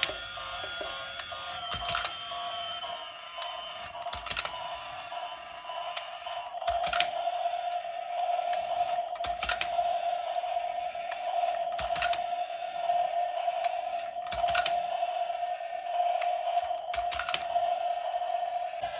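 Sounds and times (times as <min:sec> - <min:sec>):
toy motor whine: 0:00.0 - 0:18.9.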